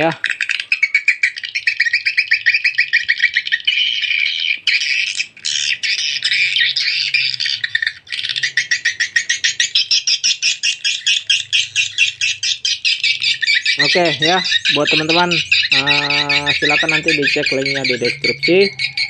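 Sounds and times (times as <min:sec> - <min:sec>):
recorded bird chirps through speakers: 0:00.0 - 0:19.0.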